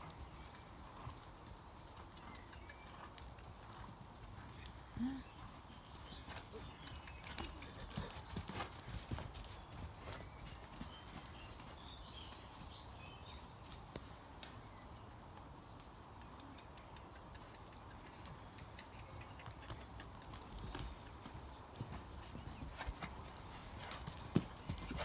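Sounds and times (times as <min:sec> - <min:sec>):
horse hoofbeats on sand: 0:00.0 - 0:14.2, 0:18.0 - 0:25.0.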